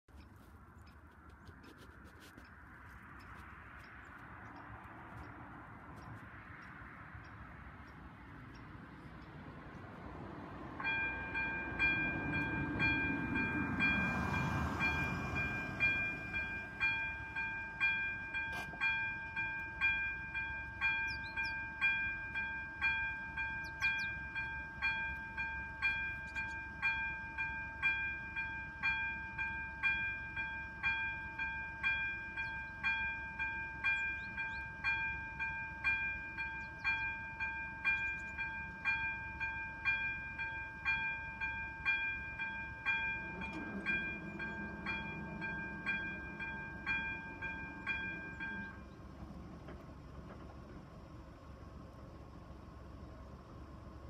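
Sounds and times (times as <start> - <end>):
vehicle rumble: 0.0 - 54.0
crossing warning bell ringing: 3.1 - 49.7.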